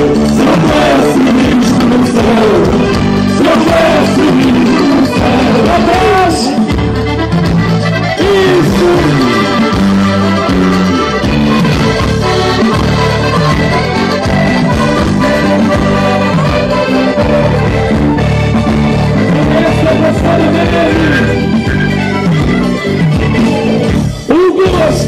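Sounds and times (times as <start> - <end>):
accordion-led folk band playing: 0.0 - 25.0.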